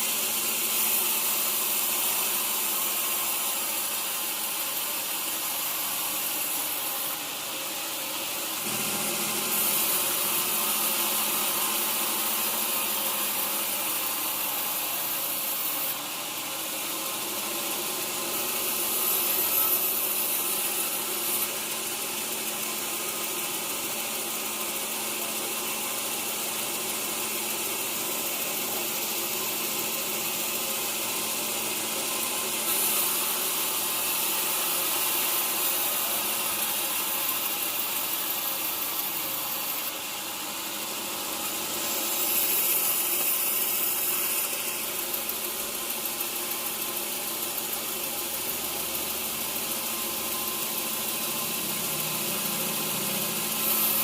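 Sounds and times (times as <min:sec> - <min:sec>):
sawmill saw cutting wood: 0:00.0 - 0:54.0.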